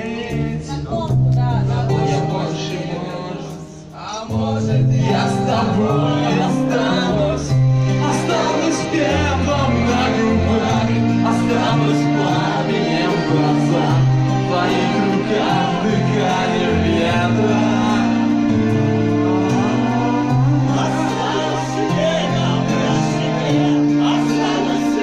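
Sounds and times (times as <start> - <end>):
backing track with bass line: 0.0 - 25.0.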